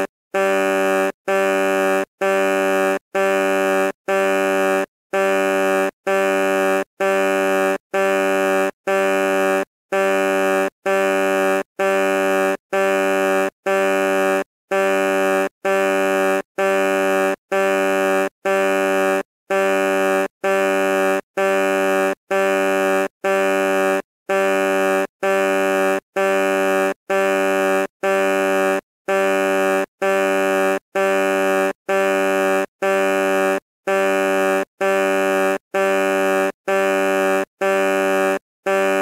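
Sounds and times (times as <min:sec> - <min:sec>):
truck horn beeping: 0:00.0 - 0:39.0.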